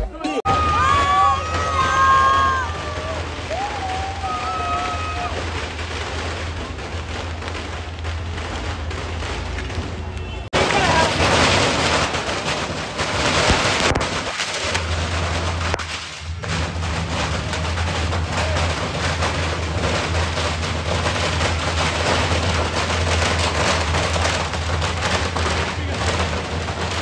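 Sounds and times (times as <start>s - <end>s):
firecrackers crackling: 0.4s - 27.0s.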